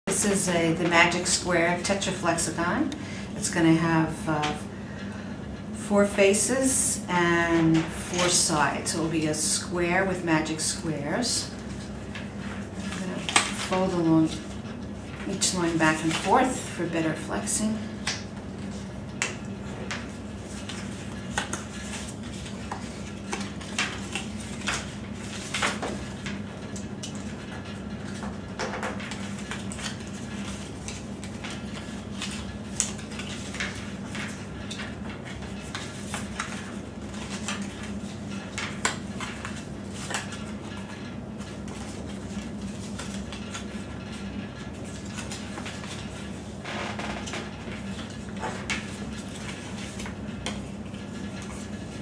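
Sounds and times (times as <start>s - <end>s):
steady low hum: 0.1s - 52.0s
paper creasing crackles and clicks: 7.4s - 52.0s.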